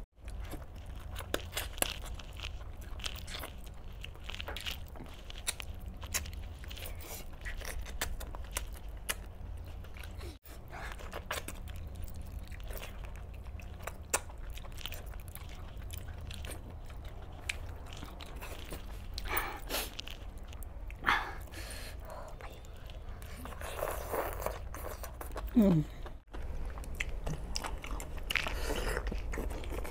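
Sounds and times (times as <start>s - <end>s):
wet chewing and smacking: 0.1s - 29.9s.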